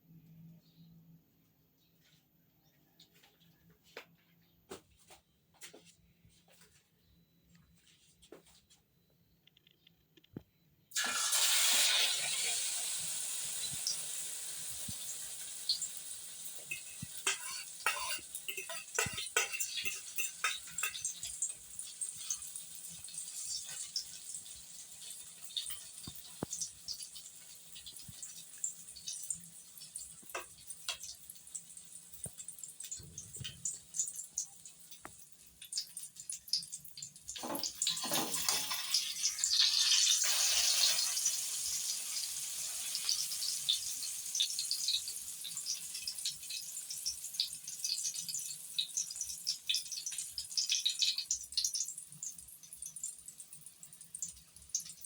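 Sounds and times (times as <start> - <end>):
omelette sizzling in hot oil: 10.9 - 55.0.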